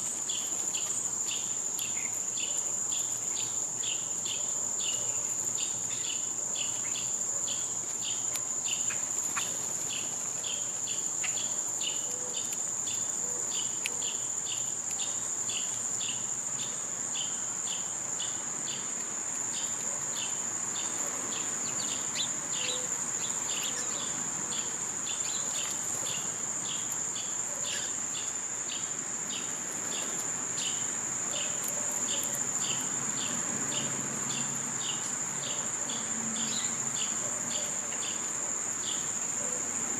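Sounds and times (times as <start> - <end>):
insect chirping: 0.0 - 39.9
insects trilling: 0.0 - 39.9.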